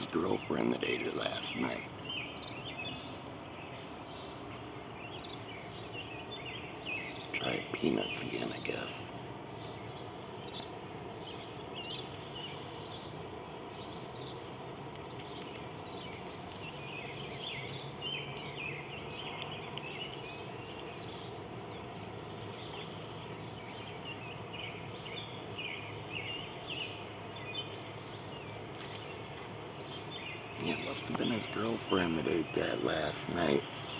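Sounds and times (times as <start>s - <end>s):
outdoor background hiss: 0.0s - 33.9s
small birds chirping: 0.0s - 33.9s.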